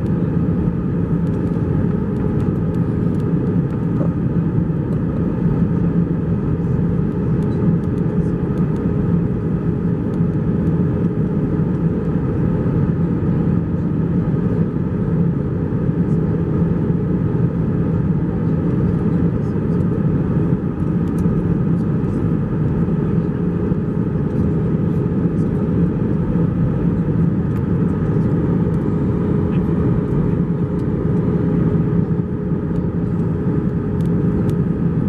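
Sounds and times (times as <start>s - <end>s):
airliner cabin roar: 0.0s - 35.0s
steady low hum: 0.0s - 35.0s.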